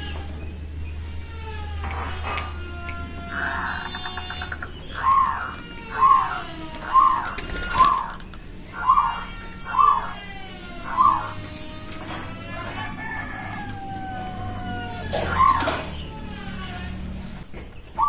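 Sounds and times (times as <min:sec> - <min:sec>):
faint birdsong: 0:00.0 - 0:18.0
dove cooing: 0:02.2 - 0:18.0.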